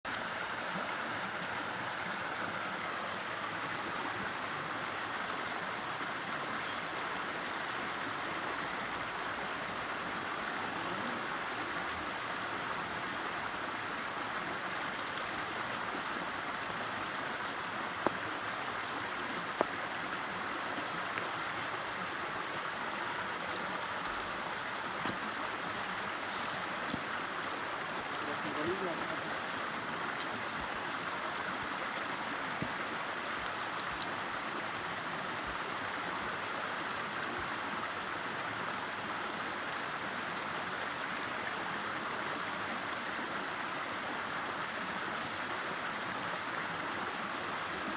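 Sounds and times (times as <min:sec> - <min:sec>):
river water rushing: 0:00.1 - 0:47.9.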